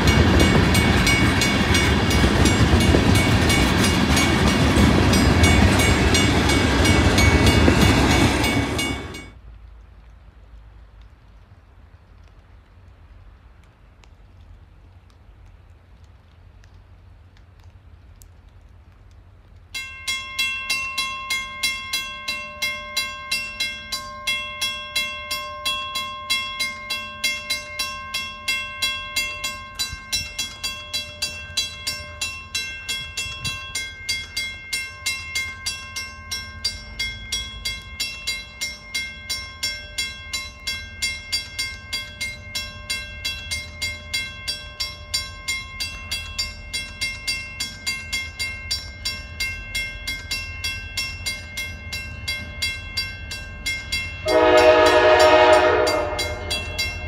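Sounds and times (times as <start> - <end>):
crossing warning bells ringing: 0.0 - 9.4, 19.7 - 57.0.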